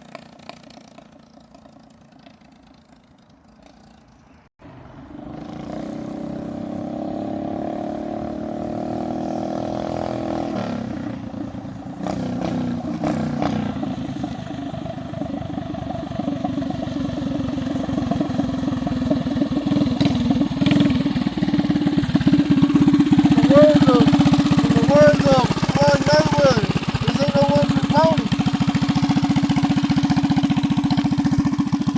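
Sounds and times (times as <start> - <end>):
mini bike engine running: 0.0 - 4.2, 5.1 - 31.9.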